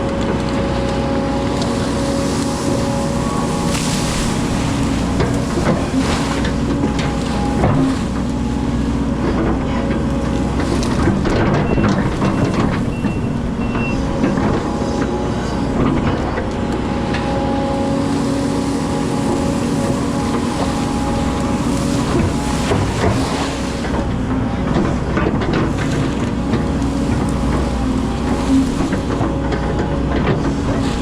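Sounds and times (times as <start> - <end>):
excavator diesel engine under load: 0.0 - 31.0
hydraulic whining: 0.0 - 31.0.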